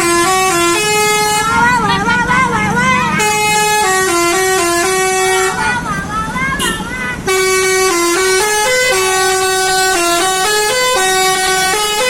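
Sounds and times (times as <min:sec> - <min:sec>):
bus musical horn playing tune: 0:00.0 - 0:12.0.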